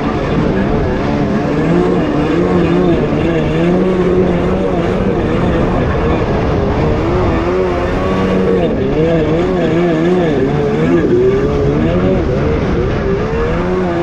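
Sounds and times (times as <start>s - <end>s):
jet ski engine running: 0.0s - 14.0s
water rushing: 0.0s - 14.0s
wind noise: 0.0s - 14.0s.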